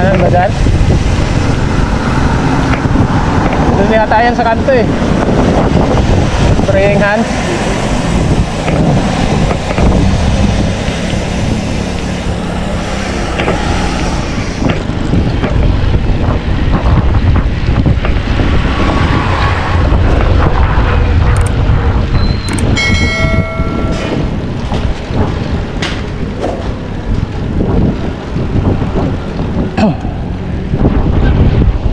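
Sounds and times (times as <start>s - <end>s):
tyre and road noise: 0.0s - 31.9s
wind on microphone: 0.0s - 31.9s.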